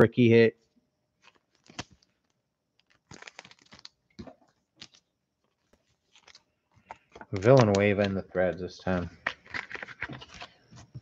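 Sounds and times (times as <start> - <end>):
cards and packs being handled: 1.2 - 11.0.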